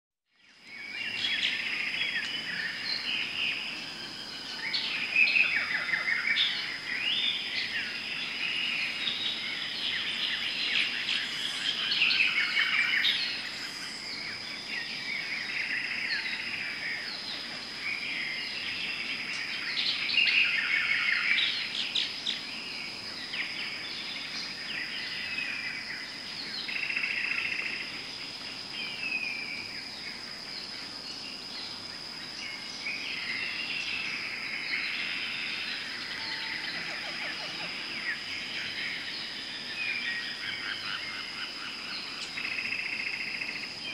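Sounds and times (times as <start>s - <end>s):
high-pitched insect drone: 0.6s - 43.9s
birds chirping and calling: 0.8s - 27.8s, 30.7s - 43.9s.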